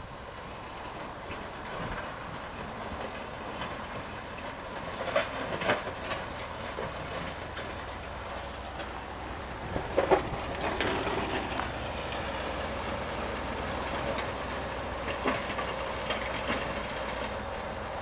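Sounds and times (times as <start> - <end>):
grader engine rumbling: 0.0 - 18.0.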